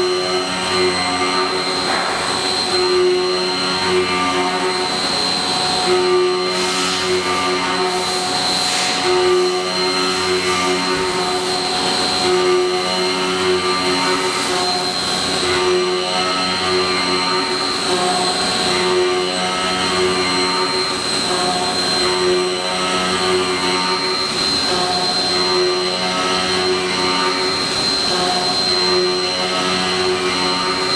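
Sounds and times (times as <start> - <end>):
lathe hum and whine: 0.0 - 30.9.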